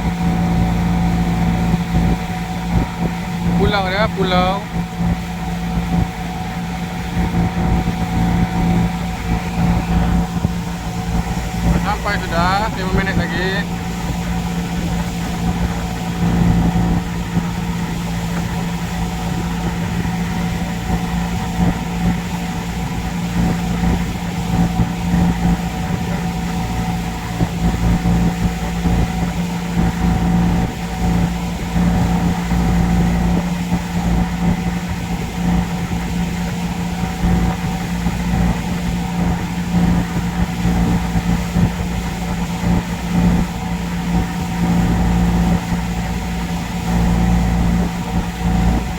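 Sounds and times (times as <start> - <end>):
boat engine droning: 0.0 - 48.9
rushing water and wind: 0.0 - 48.9.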